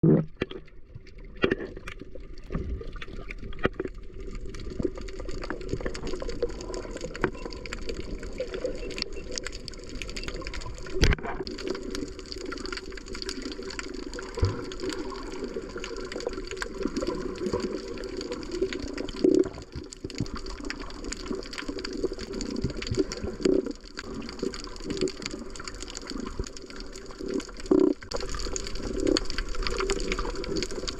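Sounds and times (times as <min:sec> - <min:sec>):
water sloshing and bubbling: 0:00.0 - 0:30.9.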